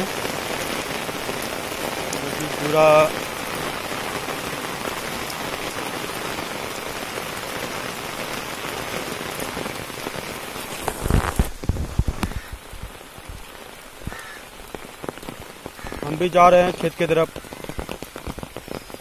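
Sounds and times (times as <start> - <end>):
rain falling on concrete: 0.0 - 19.0.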